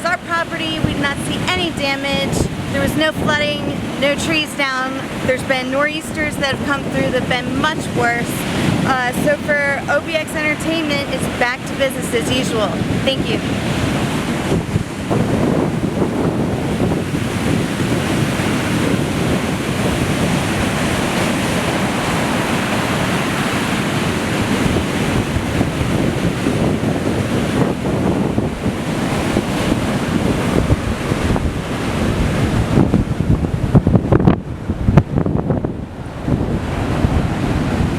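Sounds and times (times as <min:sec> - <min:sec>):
heavy surf breaking: 0:00.0 - 0:37.9
strong wind buffeting microphone: 0:00.0 - 0:37.9.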